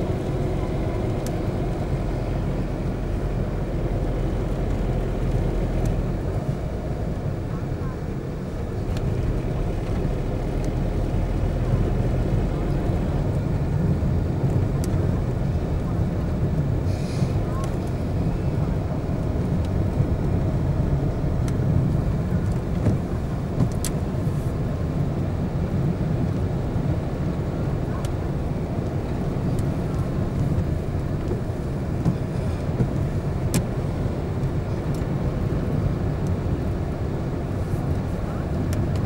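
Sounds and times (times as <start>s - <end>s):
car engine and tyre rumble: 0.0s - 39.0s.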